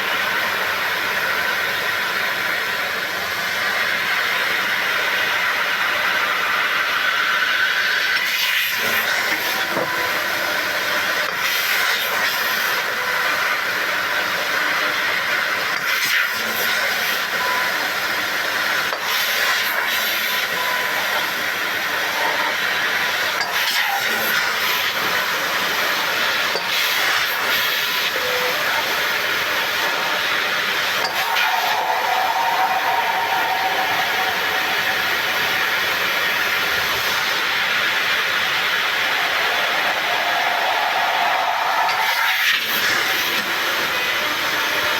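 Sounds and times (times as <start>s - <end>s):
laser cutting machine hissing: 0.1s - 44.9s.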